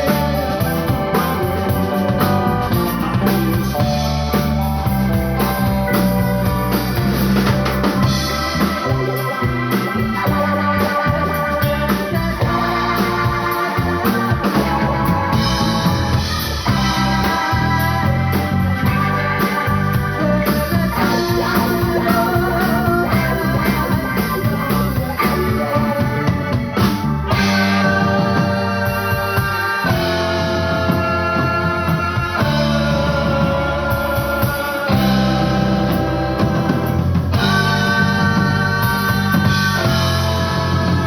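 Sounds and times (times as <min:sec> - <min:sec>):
bass line: 0:00.0 - 0:41.0
drum kit: 0:00.0 - 0:41.0
electric guitar: 0:00.0 - 0:41.0.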